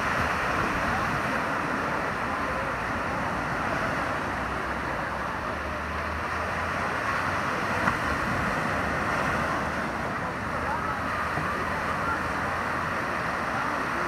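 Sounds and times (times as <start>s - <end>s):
small waves washing on sand: 0.0s - 14.0s.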